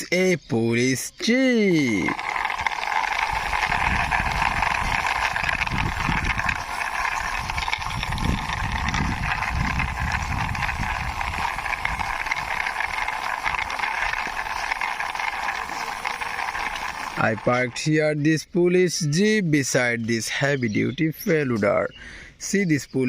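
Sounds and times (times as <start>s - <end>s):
toy car wheels rolling: 0.0s - 23.0s.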